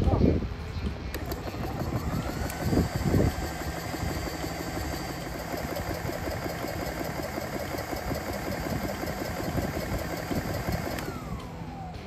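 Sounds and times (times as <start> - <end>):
air compressor pulsing: 1.1 - 12.0.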